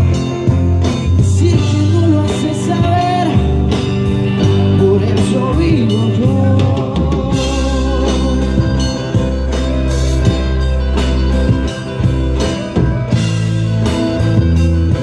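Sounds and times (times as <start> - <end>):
gliding melodic line: 0.0 - 15.0
live band playing latin pop: 0.0 - 15.0.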